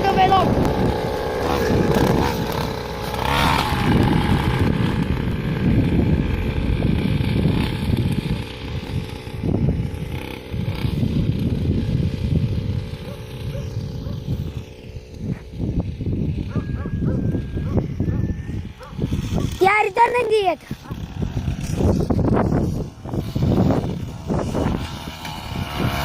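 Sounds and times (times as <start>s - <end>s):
motocross bike engine running: 0.0s - 26.0s.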